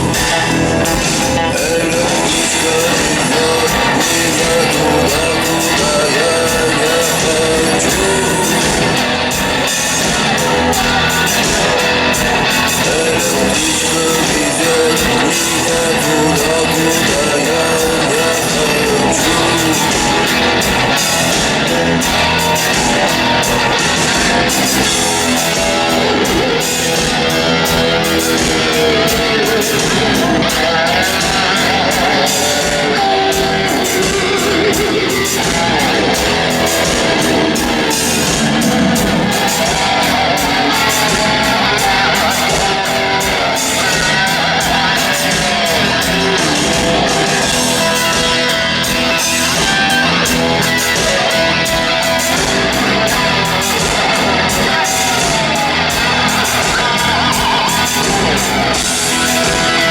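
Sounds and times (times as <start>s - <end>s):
electric guitars: 0.0s - 59.9s
rock band playing live: 0.0s - 59.9s
steady drum beat: 0.0s - 59.9s.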